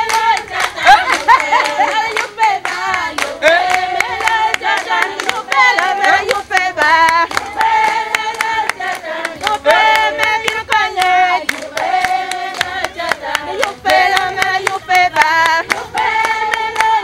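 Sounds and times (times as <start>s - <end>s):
group of people singing: 0.0s - 17.0s
rhythmic hand clapping: 0.0s - 17.0s.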